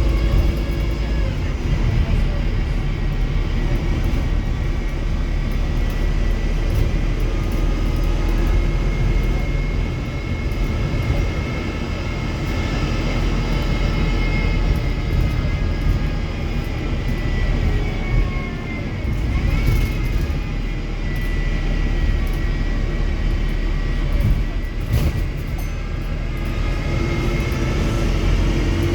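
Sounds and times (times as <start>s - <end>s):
bus diesel engine rumbling: 0.0s - 28.9s.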